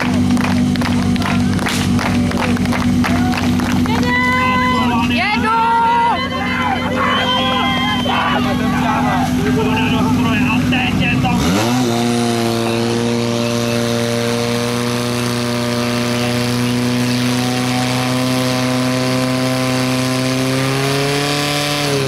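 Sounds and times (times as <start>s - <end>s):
fire pump engine running: 0.0s - 22.0s.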